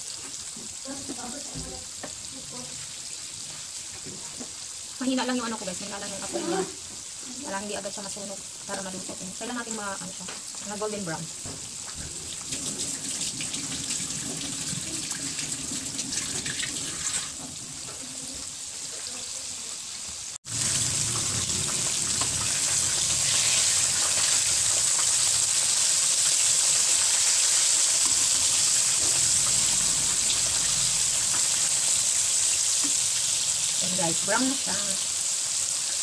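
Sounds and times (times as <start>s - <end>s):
chicken sizzling in hot oil: 0.0s - 36.0s.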